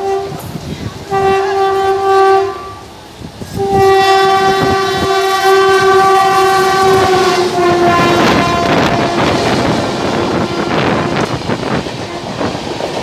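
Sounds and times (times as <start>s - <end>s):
locomotive horn blast: 0.0s - 12.6s
train rumble and wheel clatter: 0.0s - 13.0s.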